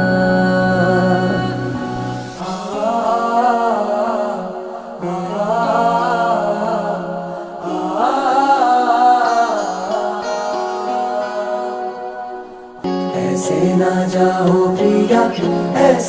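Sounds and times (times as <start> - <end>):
person singing long held notes: 0.0 - 16.0
sustained musical accompaniment: 0.0 - 16.0.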